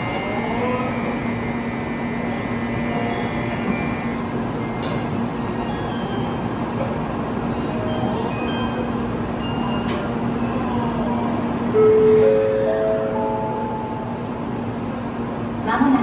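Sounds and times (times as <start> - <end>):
station noise: 0.0 - 16.0
train steady low hum: 0.0 - 16.0.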